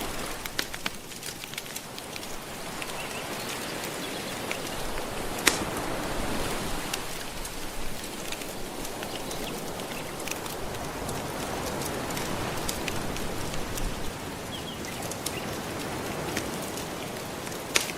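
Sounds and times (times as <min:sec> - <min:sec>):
ocean waves washing: 0:00.0 - 0:17.9
wood fire crackling: 0:00.0 - 0:17.9.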